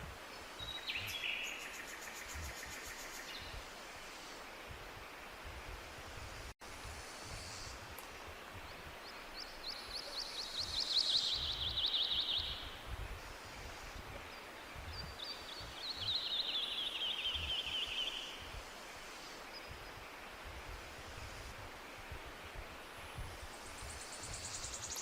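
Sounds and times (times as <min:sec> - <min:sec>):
songbird singing: 0:00.0 - 0:06.2, 0:07.3 - 0:25.0.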